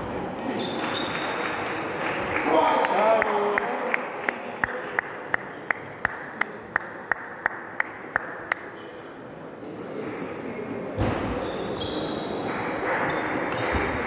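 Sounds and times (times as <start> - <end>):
hum of a large hall: 0.0 - 14.0.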